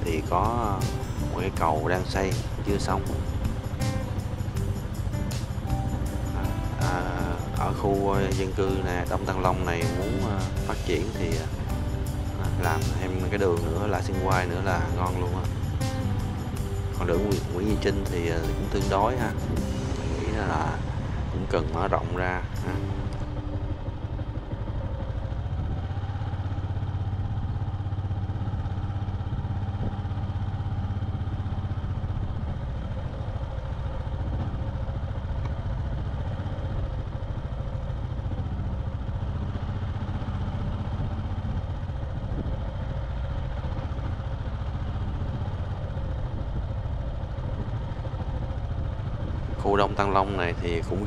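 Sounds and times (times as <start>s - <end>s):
motorbike engine cruising: 0.0s - 51.0s
wind and road noise: 0.0s - 51.0s.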